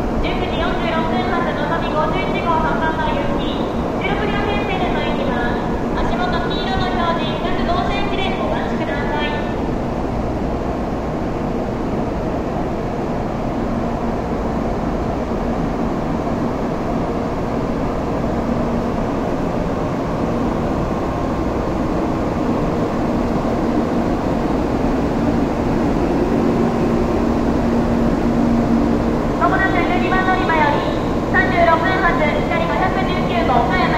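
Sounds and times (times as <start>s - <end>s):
train rumbling and humming: 0.0s - 33.9s.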